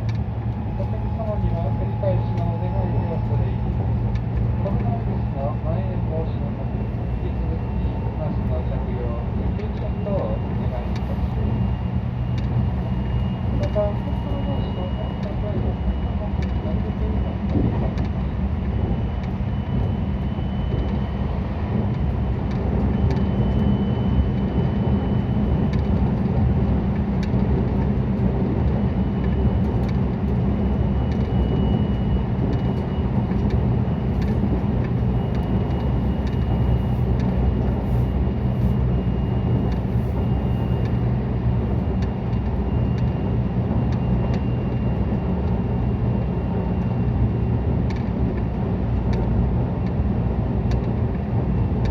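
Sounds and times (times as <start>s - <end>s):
train wheels rumbling on rail: 0.0s - 51.9s
faint high whine: 0.6s - 25.9s, 30.5s - 47.6s.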